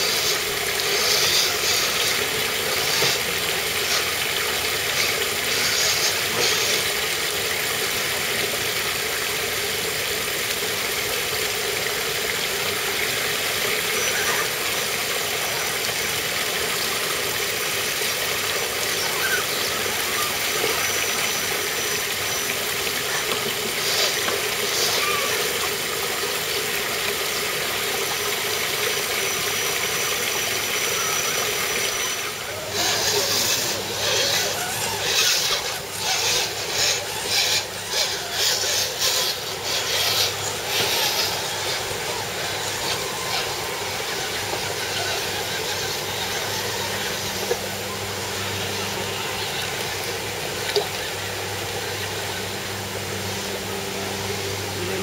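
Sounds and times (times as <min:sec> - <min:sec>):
electric motors whirring: 0:00.0 - 0:55.0
stream over rocky waterfall: 0:00.0 - 0:55.0.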